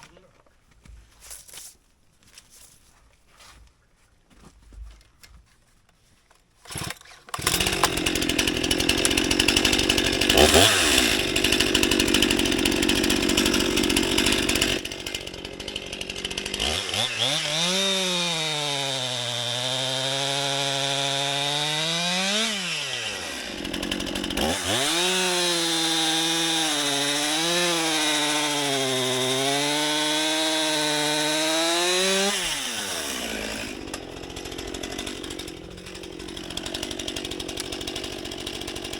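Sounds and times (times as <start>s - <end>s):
chainsaw cutting wood: 6.6s - 38.9s.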